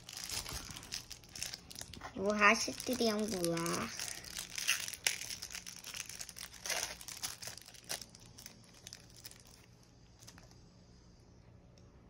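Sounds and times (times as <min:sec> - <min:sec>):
plastic wrapper crinkling: 0:00.0 - 0:10.6.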